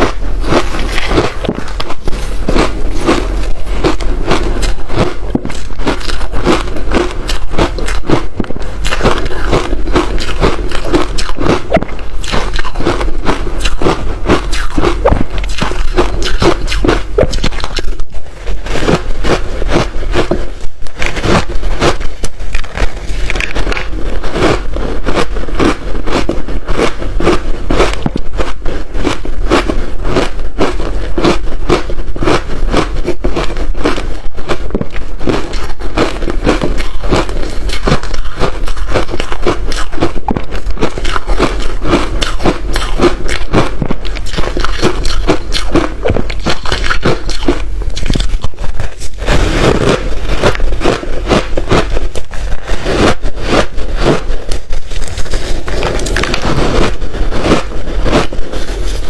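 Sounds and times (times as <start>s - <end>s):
ice crunching while chewed: 0.0s - 59.0s.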